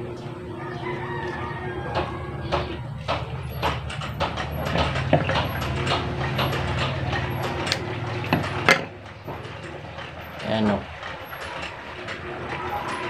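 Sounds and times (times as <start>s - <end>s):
low engine-like drone: 0.0s - 13.0s.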